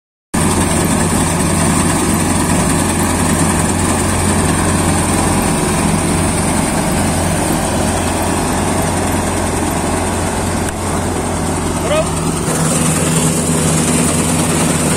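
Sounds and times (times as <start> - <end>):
combine harvester mechanical drone: 0.4 - 14.9.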